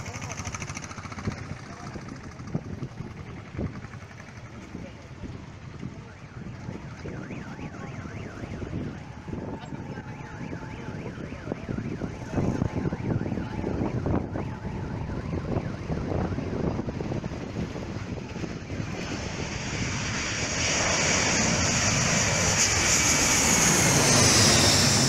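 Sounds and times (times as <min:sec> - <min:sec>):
jet engines rumble and whine: 0:00.0 - 0:25.0.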